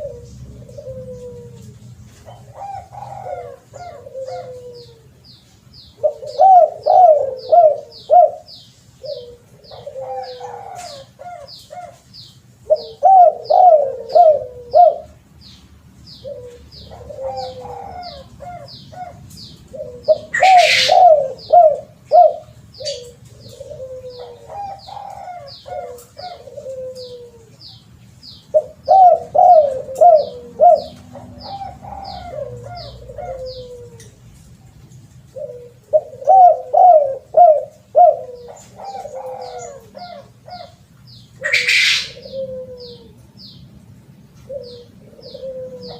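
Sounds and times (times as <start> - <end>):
dove cooing: 0.0 - 15.3, 16.1 - 43.6, 44.3 - 45.9.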